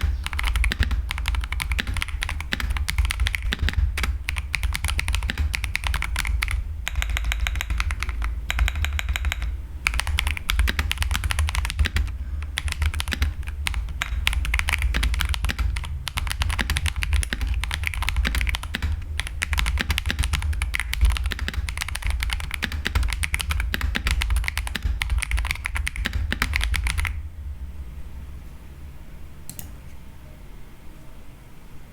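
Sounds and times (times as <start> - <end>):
mechanical keyboard typing: 0.0 - 27.2
steady low hum: 0.0 - 31.9.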